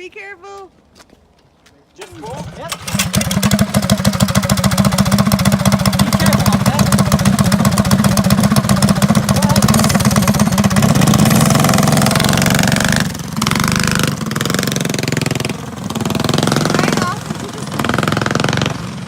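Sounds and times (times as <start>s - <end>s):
small engine running: 2.0s - 19.0s.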